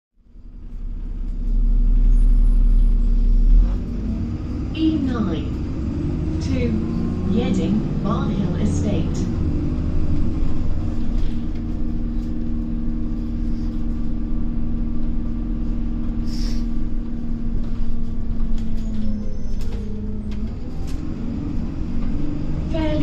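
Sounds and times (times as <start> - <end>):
bus engine rumble from inside: 0.2 - 23.0.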